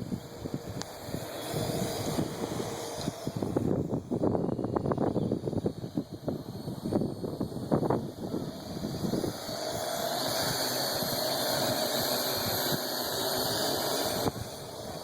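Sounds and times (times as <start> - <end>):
quadcopter rotors whining: 0.0 - 15.0.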